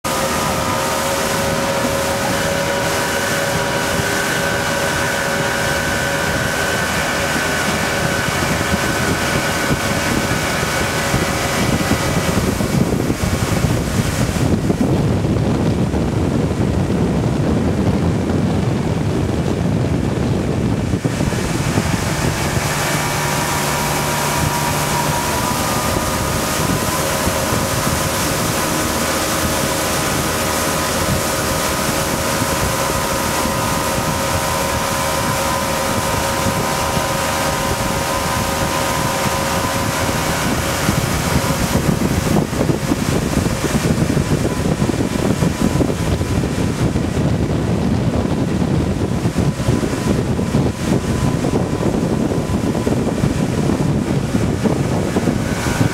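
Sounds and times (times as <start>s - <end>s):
boat motor running: 0.0s - 55.9s
water rushing: 0.0s - 55.9s
wind on microphone: 0.0s - 55.9s.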